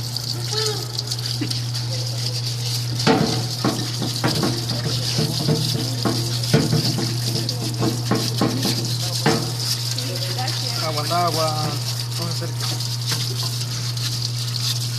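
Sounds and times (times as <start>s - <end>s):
pump motor hum: 0.0s - 14.9s.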